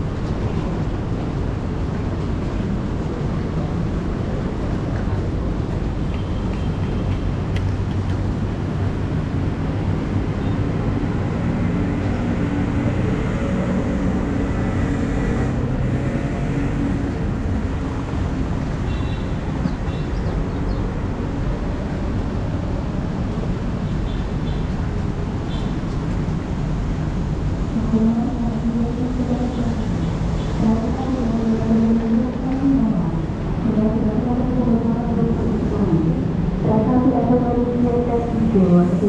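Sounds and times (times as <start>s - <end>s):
train low rumble: 0.0s - 39.0s.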